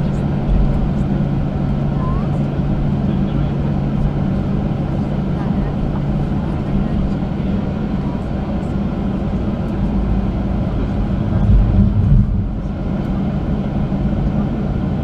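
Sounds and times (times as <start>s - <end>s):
deep rumble of plane rolling: 0.0s - 15.0s
jet engines humming in cabin: 0.0s - 15.0s.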